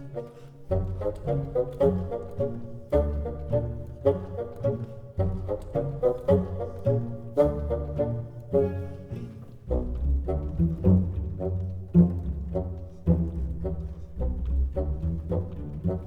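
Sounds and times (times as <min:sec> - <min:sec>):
string music with bass line: 0:00.0 - 0:16.0.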